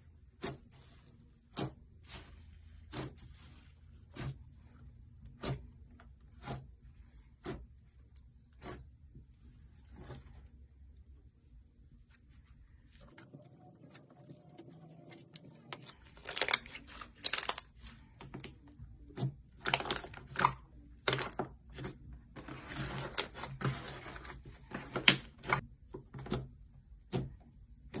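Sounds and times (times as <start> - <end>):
slime being mixed: 0.0 - 13.2, 13.9 - 28.0.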